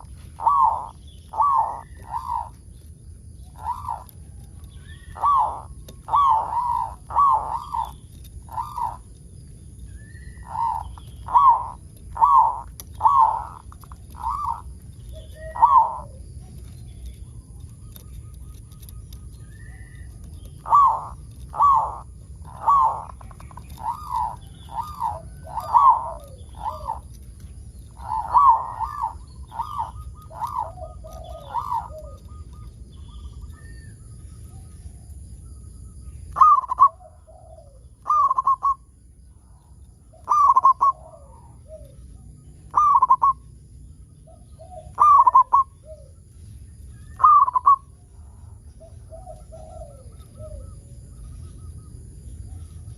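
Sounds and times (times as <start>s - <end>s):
dove cooing: 0.0s - 35.1s, 36.3s - 43.6s, 44.2s - 51.0s.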